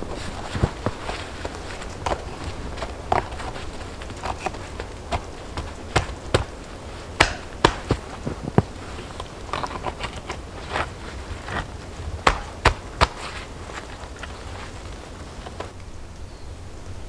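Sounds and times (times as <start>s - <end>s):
stones clacking together: 0.1s - 15.7s.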